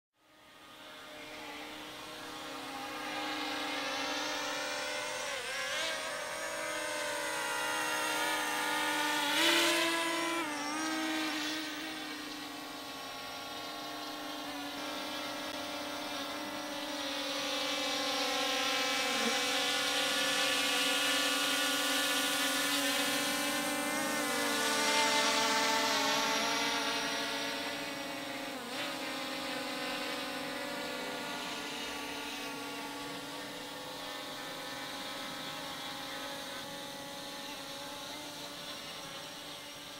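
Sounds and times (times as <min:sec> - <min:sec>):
drone propellers whining: 0:00.3 - 0:39.9.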